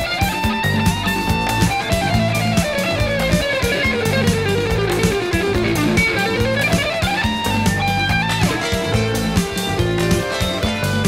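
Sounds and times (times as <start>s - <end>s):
bass and drums: 0.0s - 11.0s
jazz fusion electric guitar: 0.0s - 11.0s.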